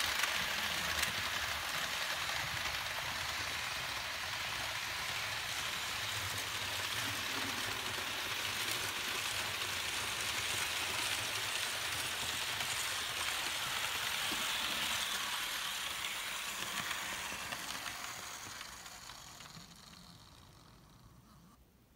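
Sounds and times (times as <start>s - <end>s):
model train whirring on rails: 0.0s - 21.6s.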